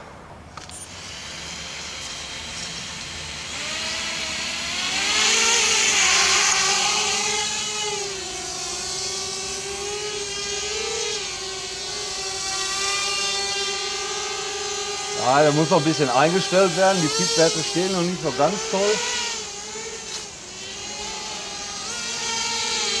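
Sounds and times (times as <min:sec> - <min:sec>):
quadcopter motors whining: 0:00.4 - 0:23.0.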